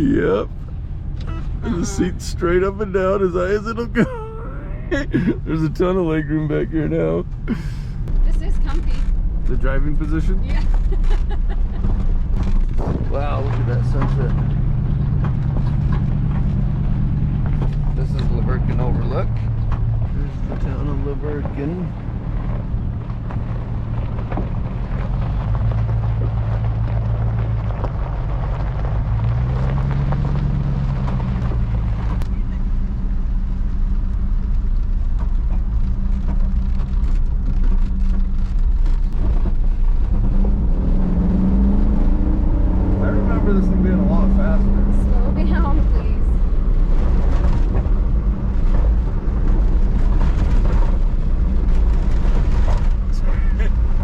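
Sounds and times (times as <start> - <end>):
engine drone inside car: 0.0 - 54.0
body and suspension rattles: 5.1 - 54.0.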